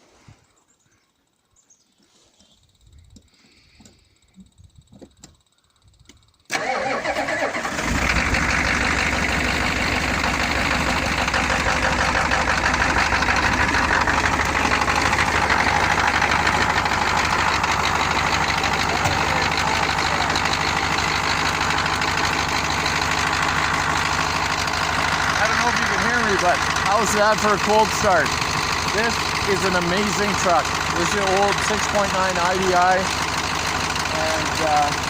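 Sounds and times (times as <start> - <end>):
diesel engine starting and idling: 6.4 - 35.0.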